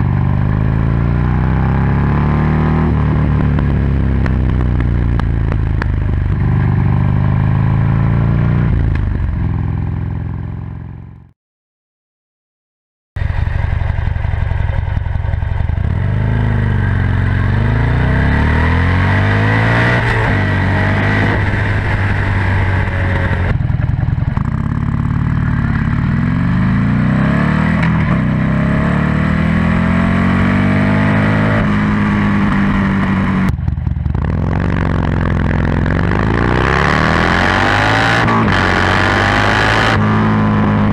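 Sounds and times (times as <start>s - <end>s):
motorcycle engine revving: 0.0s - 11.3s, 13.2s - 40.9s.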